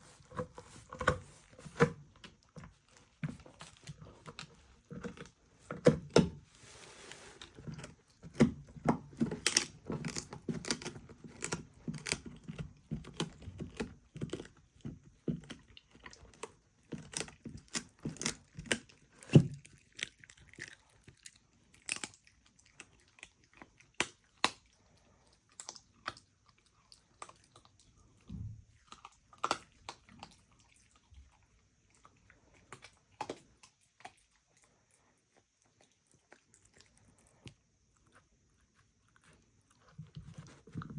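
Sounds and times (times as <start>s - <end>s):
dog chewing and crunching food: 0.0s - 40.9s.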